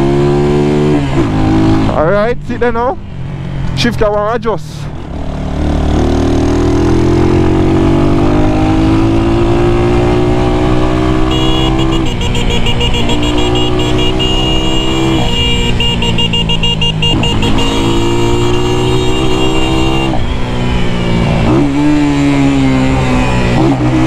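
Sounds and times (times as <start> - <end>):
motorcycle engine accelerating: 0.0 - 2.1, 5.0 - 24.0.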